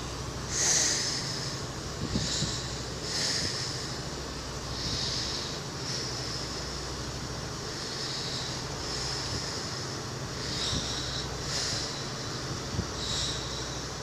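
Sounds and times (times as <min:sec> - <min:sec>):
high hiss: 0:00.0 - 0:14.0
low drone: 0:00.0 - 0:14.0.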